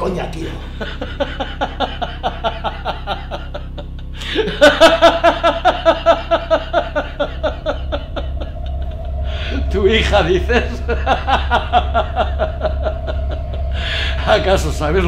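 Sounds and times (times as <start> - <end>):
man laughing: 0.4 - 15.0.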